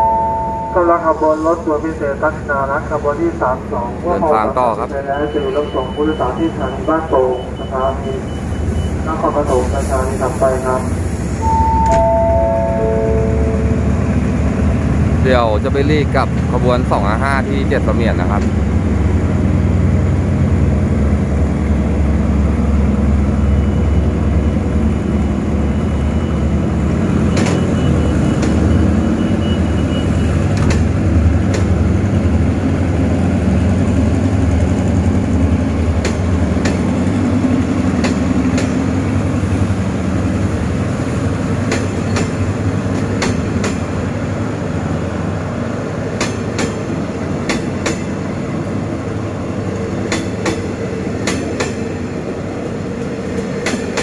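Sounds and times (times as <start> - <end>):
train coaches rumbling: 0.0 - 54.0.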